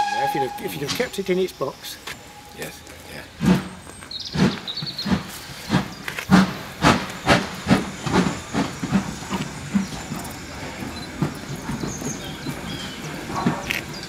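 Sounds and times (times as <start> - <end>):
steam locomotive chuffing: 0.0 - 14.0.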